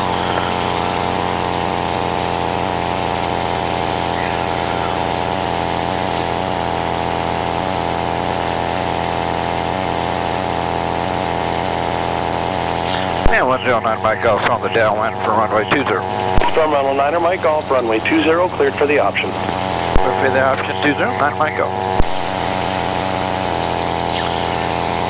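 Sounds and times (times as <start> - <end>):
piston engine and propeller running: 0.0 - 25.0.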